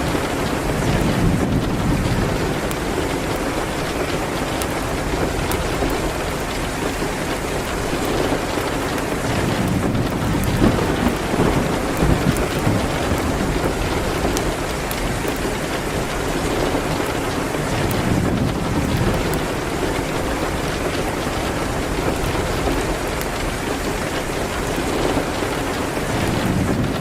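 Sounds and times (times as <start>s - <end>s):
fireplace crackling: 0.0s - 27.0s
rain hitting a window: 0.0s - 27.0s.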